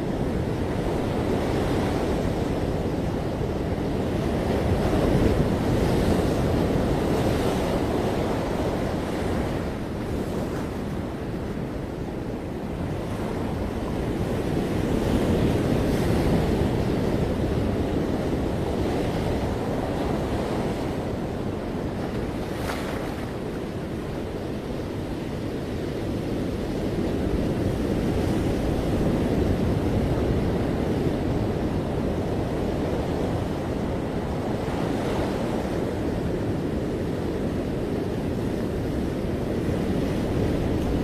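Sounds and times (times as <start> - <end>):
ocean surf washing onto beach: 0.0 - 41.0
wind buffeting microphone: 0.0 - 41.0.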